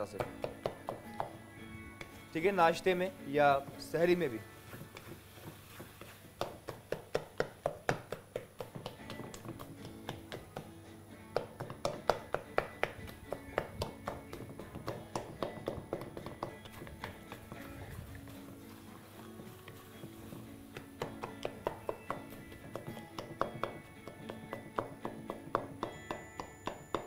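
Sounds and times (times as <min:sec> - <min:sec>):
background music: 0:00.0 - 0:27.0.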